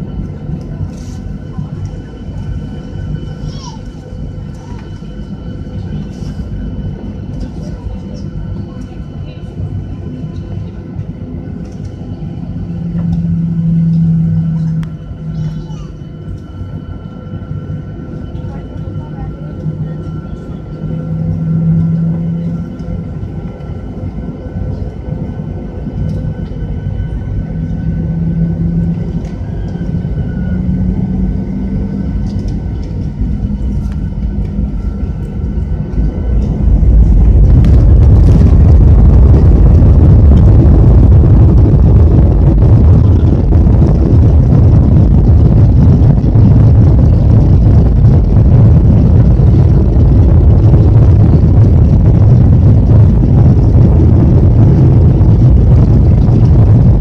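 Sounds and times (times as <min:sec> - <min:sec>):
high engine whine: 0:00.0 - 0:57.0
jet engines rumbling in cabin: 0:00.0 - 0:57.0.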